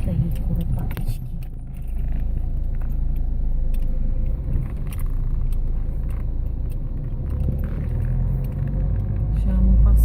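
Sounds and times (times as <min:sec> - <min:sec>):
car engine and tyres rumbling: 0:00.0 - 0:10.0
light rattles and clicks: 0:00.0 - 0:10.0.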